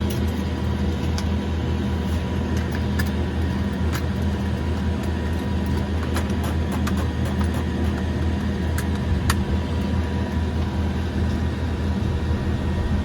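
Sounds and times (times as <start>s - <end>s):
turboprop engine drone in cabin: 0.0s - 13.0s.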